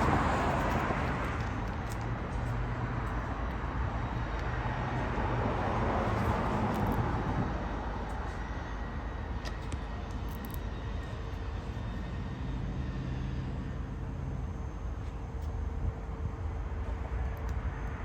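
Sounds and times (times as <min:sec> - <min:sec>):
car engine droning: 0:00.0 - 0:17.1
road noise: 0:00.0 - 0:18.0.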